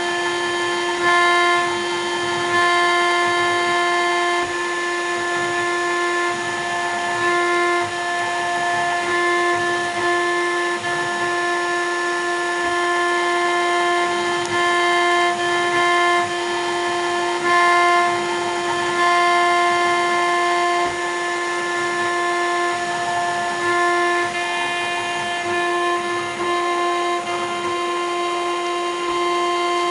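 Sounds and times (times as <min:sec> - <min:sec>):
cutter hissing through acrylic: 0:00.0 - 0:29.9
router spindle high whine: 0:00.0 - 0:29.9.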